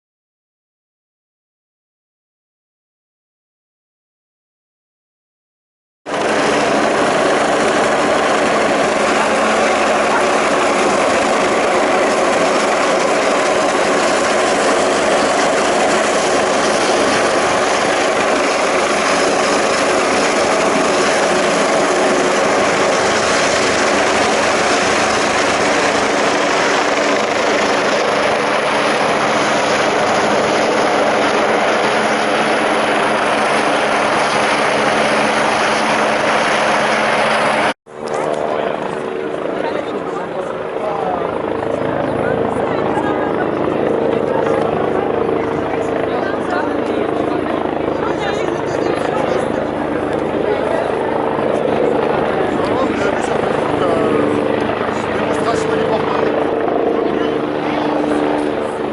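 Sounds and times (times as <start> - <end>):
helicopter turbine and rotor noise: 6.1 - 58.9.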